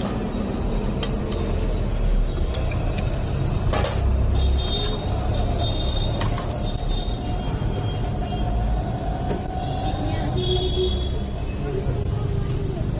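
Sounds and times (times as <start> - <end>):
street traffic rumble: 0.0 - 12.9.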